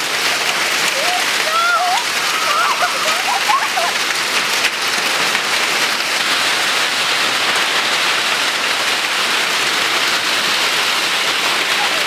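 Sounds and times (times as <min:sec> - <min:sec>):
heavy rain and hail: 0:00.0 - 0:12.0.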